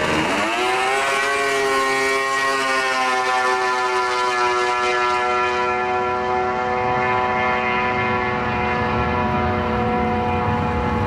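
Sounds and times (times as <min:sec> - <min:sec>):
snowmobile engine at full throttle: 0:00.0 - 0:11.0.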